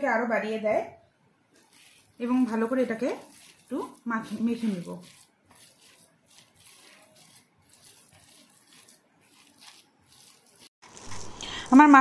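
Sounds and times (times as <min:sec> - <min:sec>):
wet squishing of hands kneading fish: 0:01.5 - 0:11.4.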